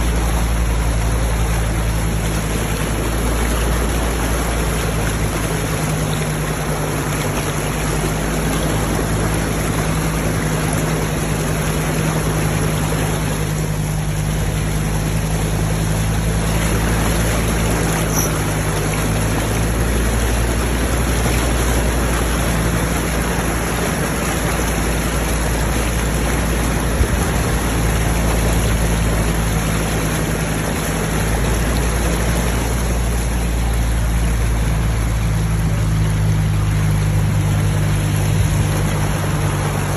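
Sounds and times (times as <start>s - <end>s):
diesel engine running: 0.0s - 39.9s
water rushing and splashing: 0.0s - 39.9s.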